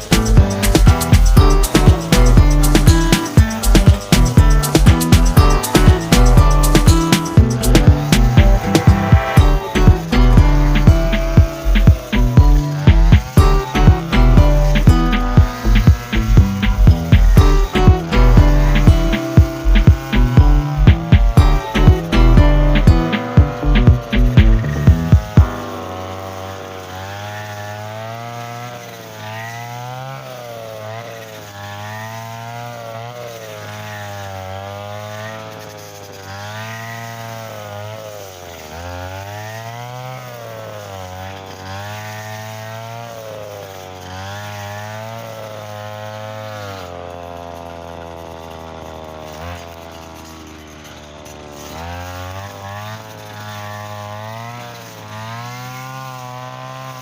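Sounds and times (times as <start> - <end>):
brush cutter engine cutting grass: 0.0 - 57.0.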